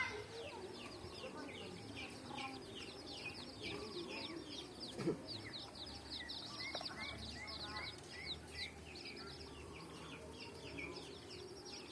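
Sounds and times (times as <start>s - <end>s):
chicks peeping: 0.0s - 11.9s.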